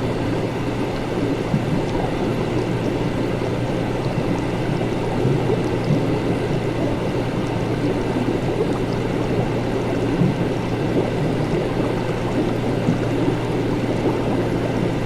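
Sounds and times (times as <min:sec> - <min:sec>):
constant low hum: 0:00.0 - 0:15.0
liquid bubbling and gurgling: 0:00.0 - 0:15.0.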